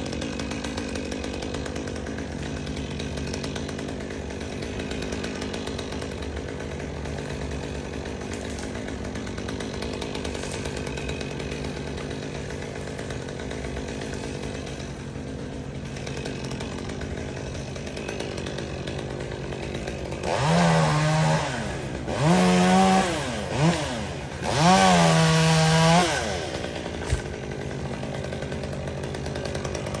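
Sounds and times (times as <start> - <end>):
chainsaw idling and revving: 0.0 - 30.0.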